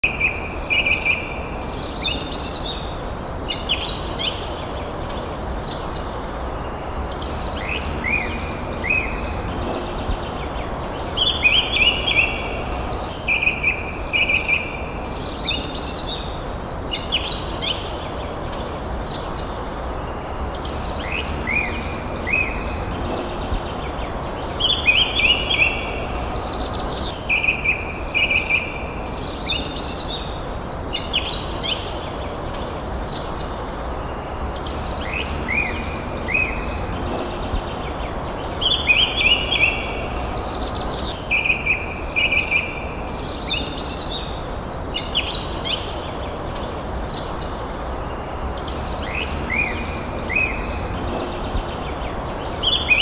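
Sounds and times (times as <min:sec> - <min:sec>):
birds chirping and whistling: 0:00.0 - 0:53.0
low background hiss: 0:00.0 - 0:53.0.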